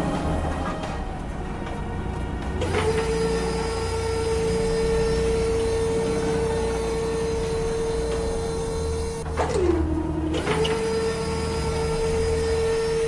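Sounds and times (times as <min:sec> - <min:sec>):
low hum: 0:00.0 - 0:13.0
steady mechanical whine: 0:00.0 - 0:13.0.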